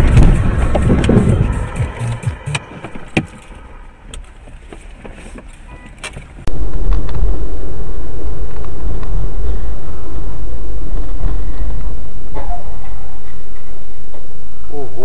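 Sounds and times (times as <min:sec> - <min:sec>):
car engine and road noise: 0:00.0 - 0:14.8.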